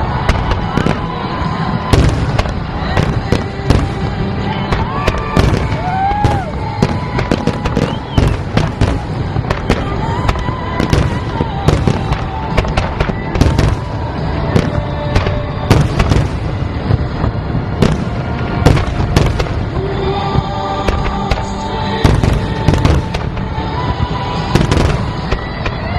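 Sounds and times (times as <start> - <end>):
fireworks bangs and crackles: 0.0 - 25.9.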